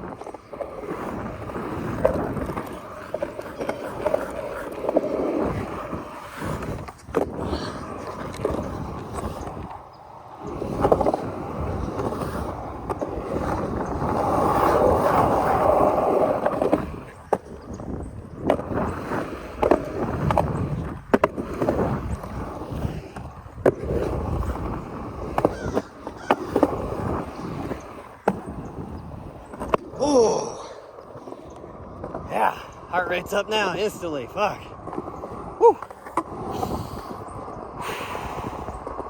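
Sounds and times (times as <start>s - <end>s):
skateboard clacks: 0.0s - 39.0s
skateboard wheels rumbling: 0.0s - 39.0s.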